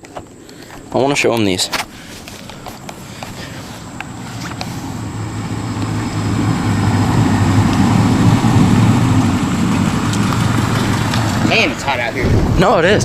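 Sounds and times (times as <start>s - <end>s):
tyre noise: 0.0s - 13.0s
car engine: 2.2s - 13.0s.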